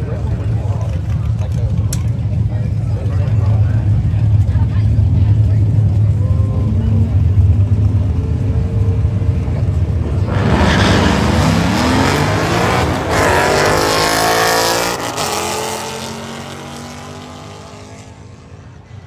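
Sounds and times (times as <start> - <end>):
car engine accelerating: 0.0 - 18.9.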